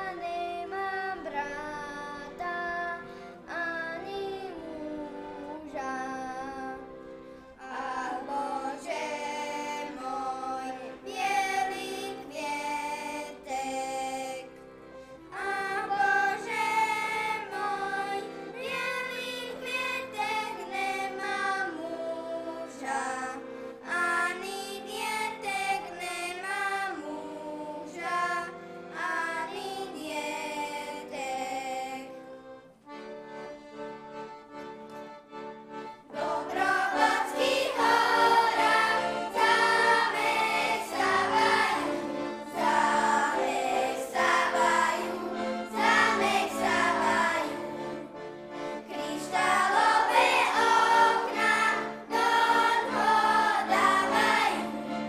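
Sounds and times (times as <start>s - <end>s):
folk band playing instrumental tune: 0.0s - 55.0s.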